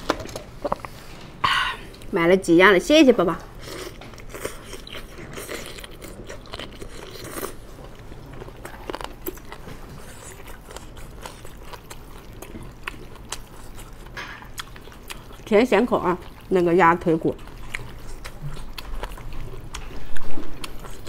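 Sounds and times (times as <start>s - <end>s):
chewing: 3.4s - 21.0s.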